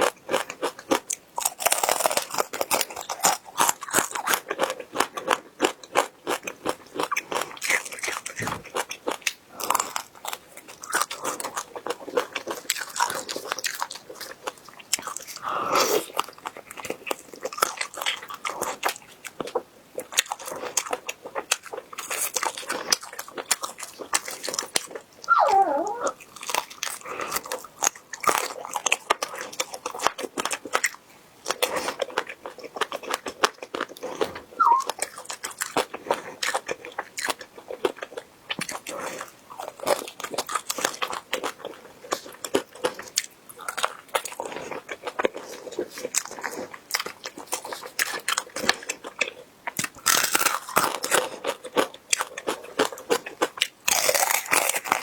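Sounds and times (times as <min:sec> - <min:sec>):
crunching and chewing bones: 0:00.0 - 0:55.0.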